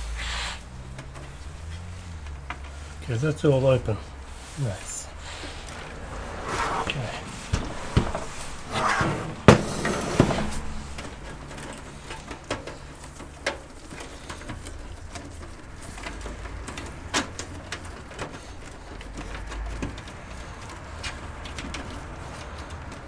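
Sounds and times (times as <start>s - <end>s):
cables rustling and clicking: 0.0s - 23.0s
computer case scraping: 0.3s - 23.0s.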